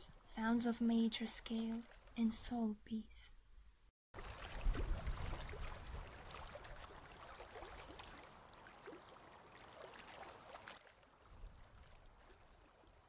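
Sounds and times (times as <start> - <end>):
water babbling: 0.0 - 2.7, 4.2 - 13.0.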